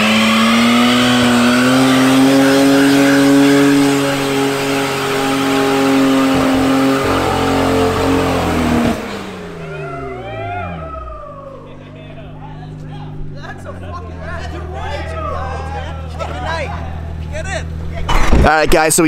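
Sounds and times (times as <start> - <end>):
tyres spinning: 0.0 - 18.1
car engine revving high: 0.0 - 18.4.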